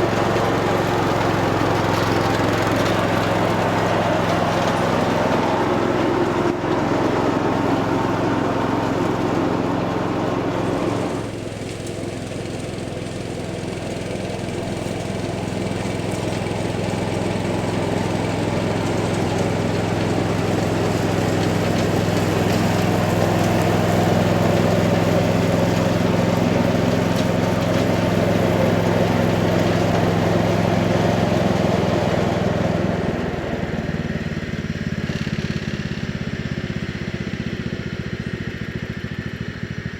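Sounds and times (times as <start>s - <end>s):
garden tractor engine mowing: 0.0s - 39.9s.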